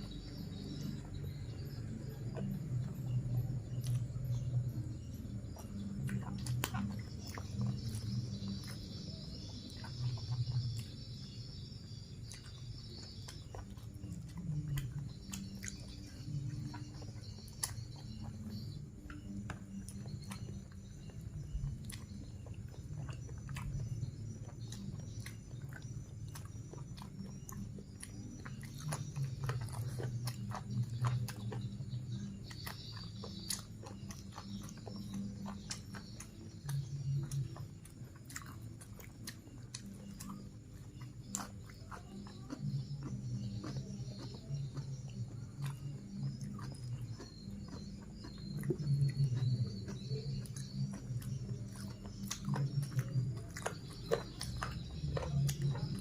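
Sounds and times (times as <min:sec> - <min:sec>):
muffled chewing: 0:00.0 - 0:56.0.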